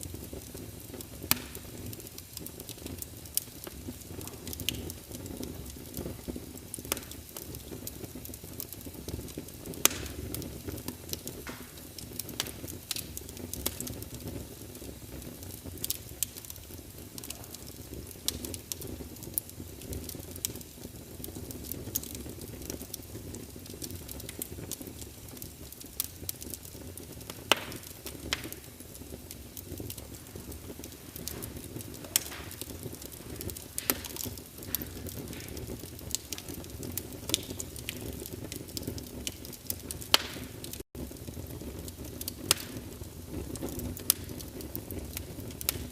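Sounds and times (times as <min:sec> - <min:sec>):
rumble of flames: 0:00.0 - 0:45.9
wood crackling and popping: 0:00.0 - 0:45.9.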